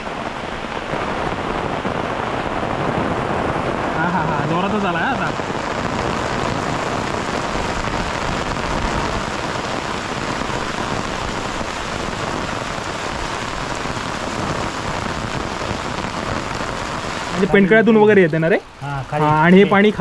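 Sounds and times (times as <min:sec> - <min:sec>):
heavy rain on foliage and road: 0:00.0 - 0:20.0.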